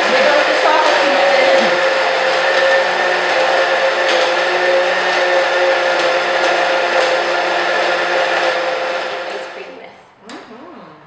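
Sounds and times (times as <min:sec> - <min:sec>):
blender motor running: 0:00.0 - 0:09.8.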